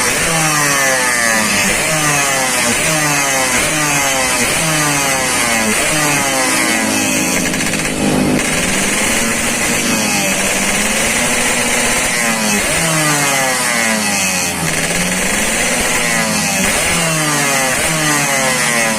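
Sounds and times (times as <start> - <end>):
loud motorcycle engine revving: 0.0 - 18.9.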